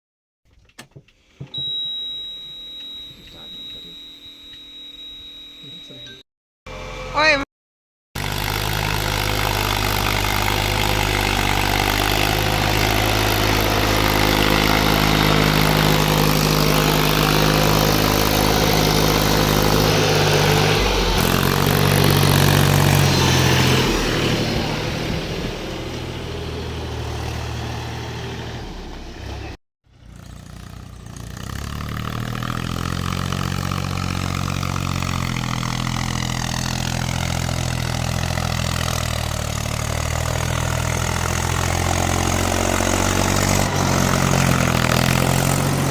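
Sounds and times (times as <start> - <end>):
diesel engine running: 8.2 - 45.9.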